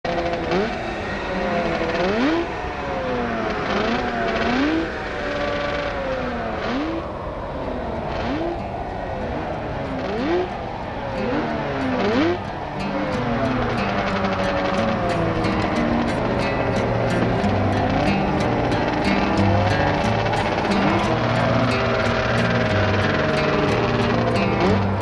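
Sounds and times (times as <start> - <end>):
vehicle engines revving: 0.0 - 25.0.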